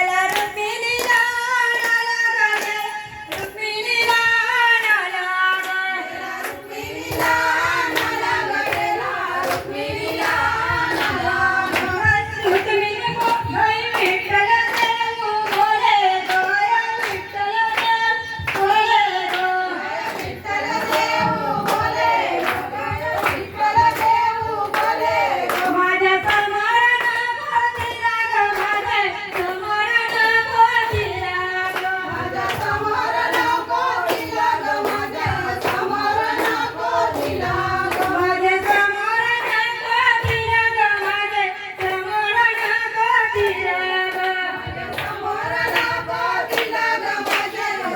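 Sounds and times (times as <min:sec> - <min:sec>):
woman singing: 0:00.0 - 0:47.9
hands clapping in time: 0:00.2 - 0:47.9.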